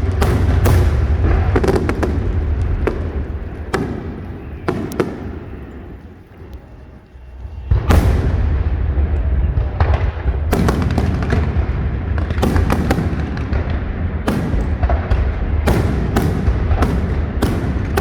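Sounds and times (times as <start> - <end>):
fireworks bursting bangs: 0.0 - 6.7, 7.5 - 18.0
low rumble: 0.0 - 18.0.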